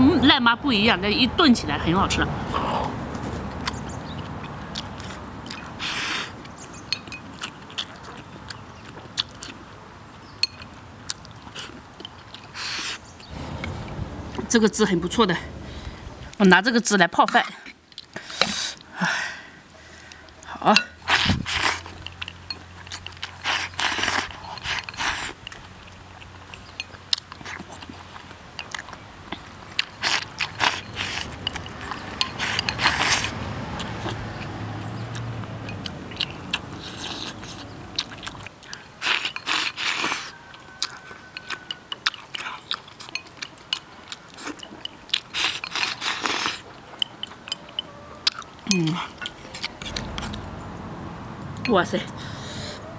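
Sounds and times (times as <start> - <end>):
person chewing: 2.5 - 9.7, 10.5 - 14.0, 17.6 - 19.0, 19.7 - 50.7.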